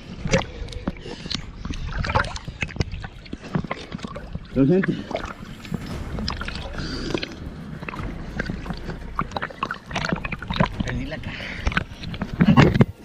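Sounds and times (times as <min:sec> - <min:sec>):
low rumble: 0:00.0 - 0:13.0
water sloshing against boat hull: 0:00.0 - 0:13.0.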